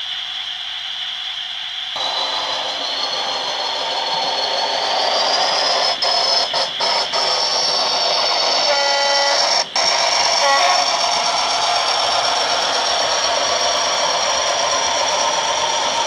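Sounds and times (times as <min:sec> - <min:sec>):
model locomotive engine whine: 0:00.0 - 0:16.0.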